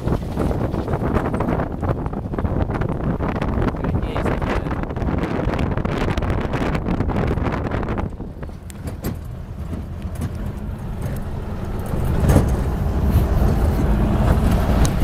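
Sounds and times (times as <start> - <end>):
truck rumbling on dirt road: 0.0 - 15.0
wind on microphone: 0.0 - 15.0.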